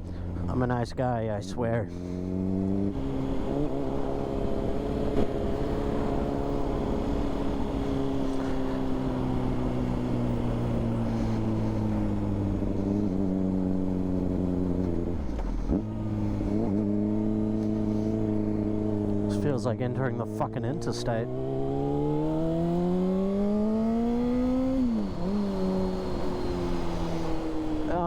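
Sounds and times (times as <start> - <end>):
motorcycle engine while riding: 0.0 - 28.0.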